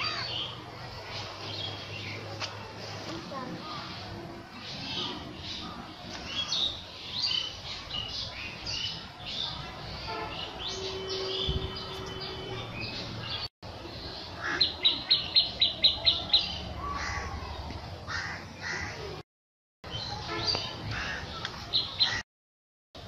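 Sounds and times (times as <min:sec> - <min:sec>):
birds chirping: 0:00.0 - 0:19.2, 0:19.8 - 0:22.2.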